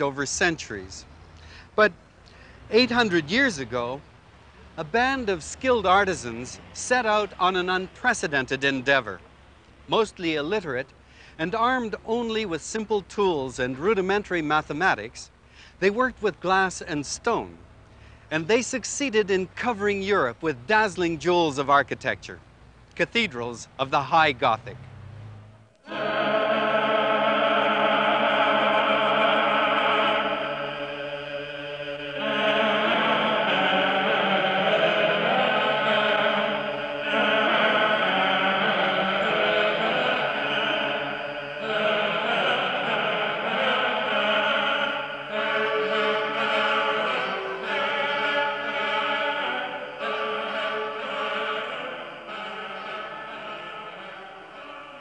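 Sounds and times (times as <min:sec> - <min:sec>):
choir singing held chords: 0:00.0 - 0:01.0, 0:01.8 - 0:17.6, 0:25.4 - 0:55.0.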